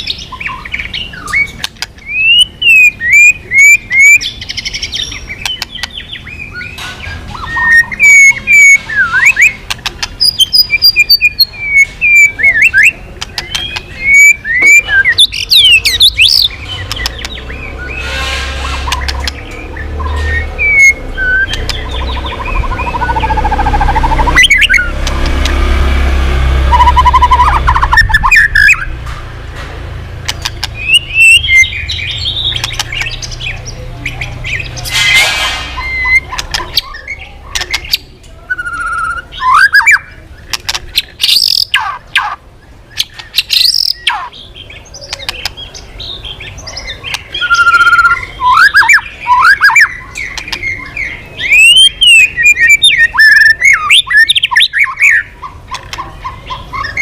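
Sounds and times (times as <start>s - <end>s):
bird singing whistled trills: 0.0s - 9.6s, 10.2s - 18.1s, 18.9s - 24.9s, 26.7s - 28.9s, 30.8s - 34.8s, 35.7s - 40.2s, 41.2s - 42.3s, 42.9s - 55.3s.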